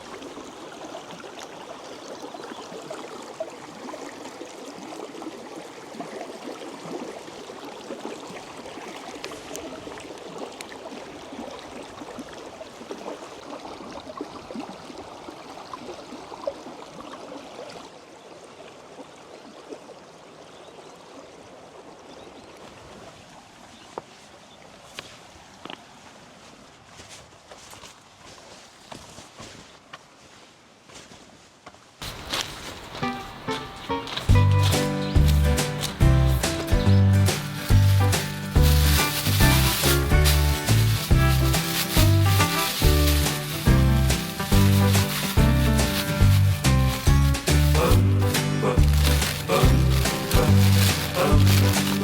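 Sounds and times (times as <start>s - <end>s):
creek water running: 0.0s - 30.0s, 32.0s - 52.0s.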